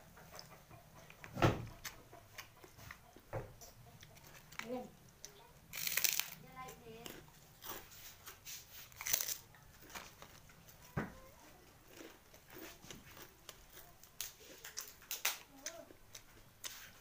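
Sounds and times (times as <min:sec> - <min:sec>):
crunchy chewing of crackers: 0:00.3 - 0:17.0.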